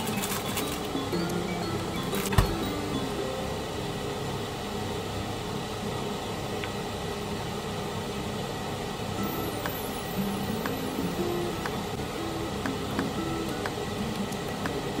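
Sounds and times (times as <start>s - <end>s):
fan-like background noise: 0.0s - 15.0s.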